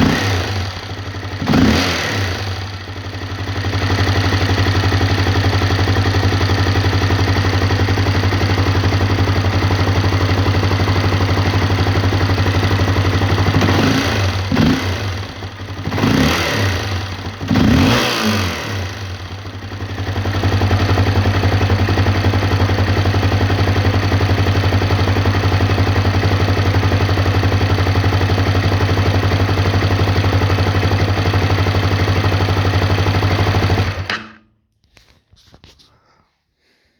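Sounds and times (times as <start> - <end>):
motorcycle engine idling and revving: 0.0 - 34.4.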